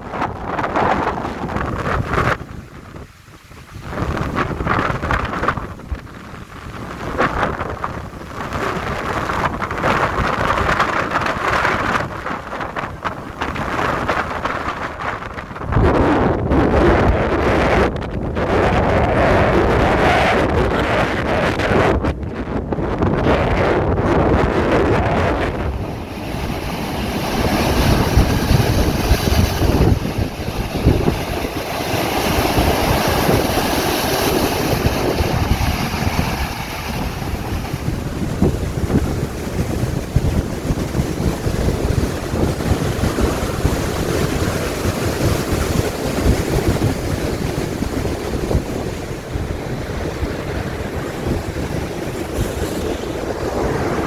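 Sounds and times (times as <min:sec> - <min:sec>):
ocean waves washing on shore: 0:00.0 - 0:54.0
wind buffeting microphone: 0:00.0 - 0:54.0.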